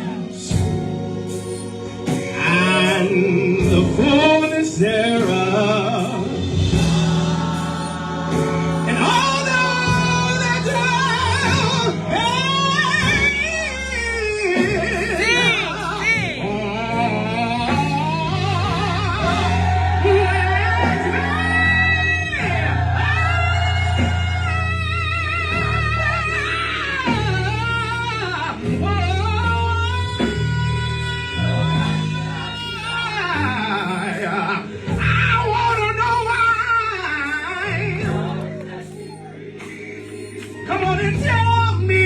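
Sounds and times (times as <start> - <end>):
band with sustained bass: 0.0 - 42.0
person singing gospel: 0.0 - 42.0.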